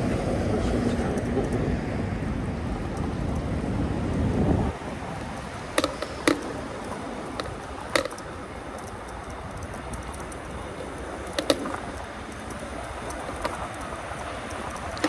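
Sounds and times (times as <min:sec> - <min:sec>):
e-bike riding noise and wind: 0:00.0 - 0:15.0.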